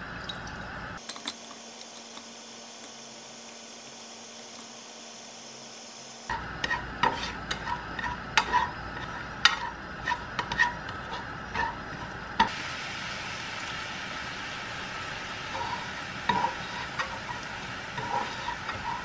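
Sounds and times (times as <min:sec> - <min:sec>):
onions sizzling in frying pan: 0:01.0 - 0:19.0.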